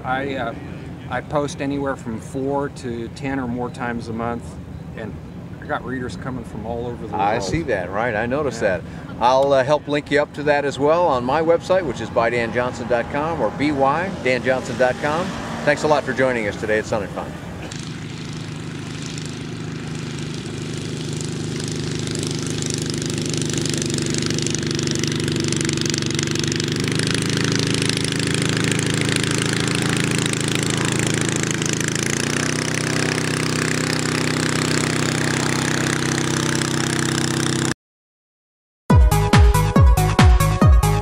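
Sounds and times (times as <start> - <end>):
light aircraft engine taxiing: 0.0 - 37.7.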